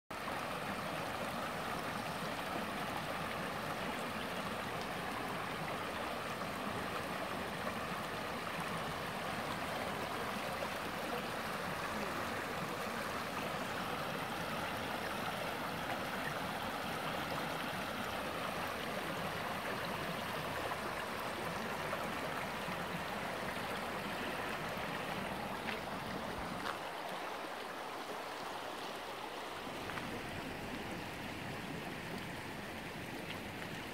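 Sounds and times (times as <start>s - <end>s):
brook trickling over stones: 0.1s - 33.9s.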